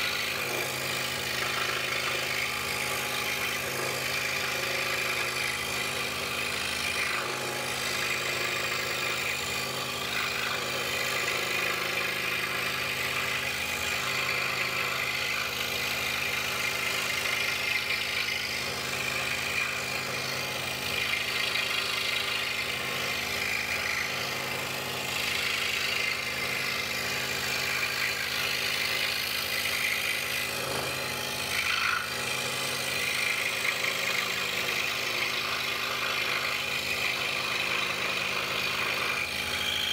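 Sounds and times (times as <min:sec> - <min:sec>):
saw blade rasping through wood: 0:00.0 - 0:39.9
scroll saw motor hum: 0:00.0 - 0:39.9.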